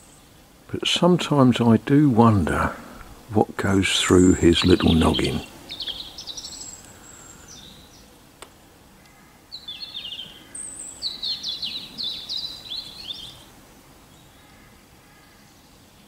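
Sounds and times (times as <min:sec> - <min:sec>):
faint outdoor background noise: 0:00.0 - 0:16.0
songbird singing: 0:00.0 - 0:16.0.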